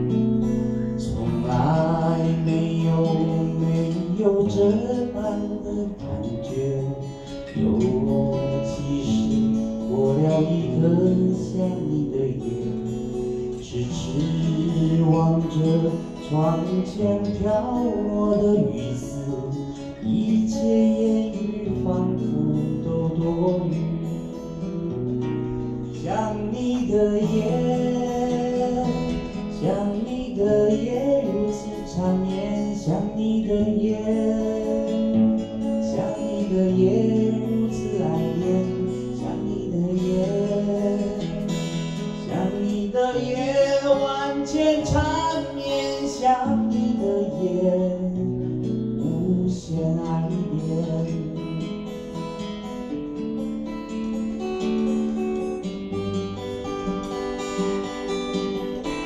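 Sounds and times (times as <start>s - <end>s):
man singing: 0.0s - 52.2s
acoustic guitar strumming: 0.0s - 59.0s.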